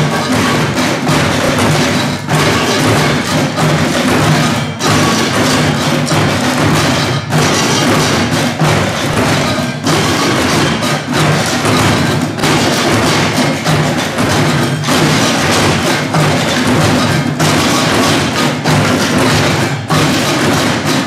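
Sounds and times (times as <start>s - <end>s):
drumsticks beating bins and buckets: 0.0s - 21.0s.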